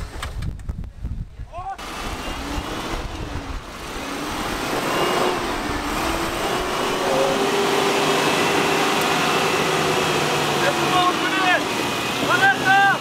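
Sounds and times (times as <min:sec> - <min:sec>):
broad rush of noise: 0:01.7 - 0:13.0
engine working under load: 0:01.8 - 0:13.0.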